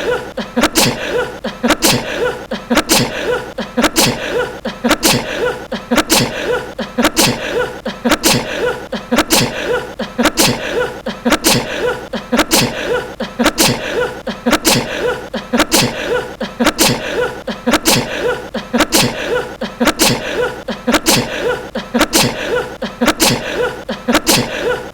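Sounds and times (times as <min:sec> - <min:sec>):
man sneezing: 0:00.0 - 0:24.9.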